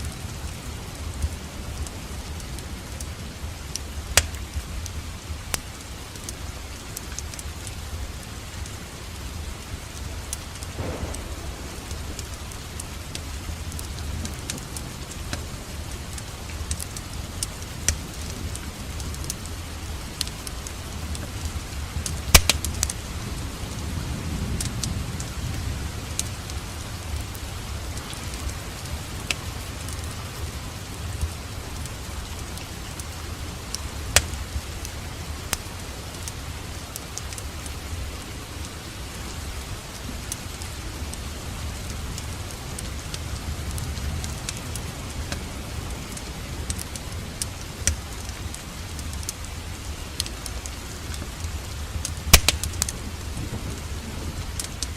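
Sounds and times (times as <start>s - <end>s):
wood fire crackling and popping: 0.0s - 39.1s, 39.8s - 54.9s
steady rain: 0.0s - 54.9s.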